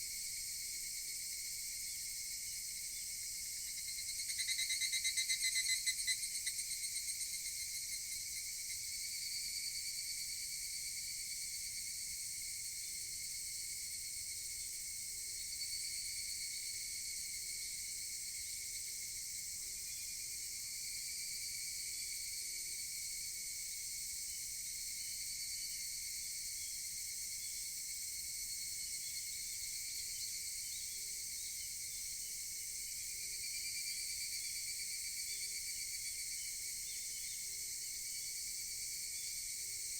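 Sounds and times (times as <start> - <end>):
nearby cicada pulsing call: 0.1 - 10.6, 15.3 - 39.9
cicadas calling in chorus: 1.7 - 9.6, 14.0 - 39.9.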